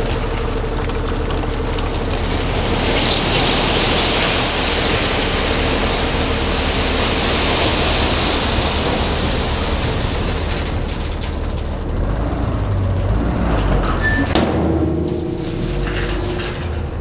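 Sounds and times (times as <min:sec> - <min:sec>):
road noise: 0:00.0 - 0:17.0
truck engine running: 0:00.0 - 0:17.0.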